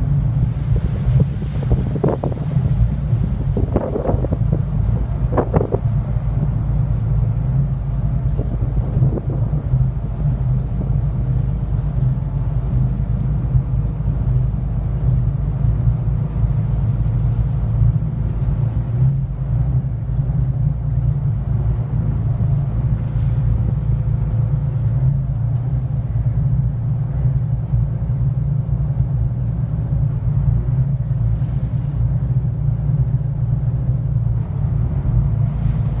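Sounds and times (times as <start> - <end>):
boat engines rumbling: 0.0 - 36.0
wind buffeting microphone: 0.0 - 36.0.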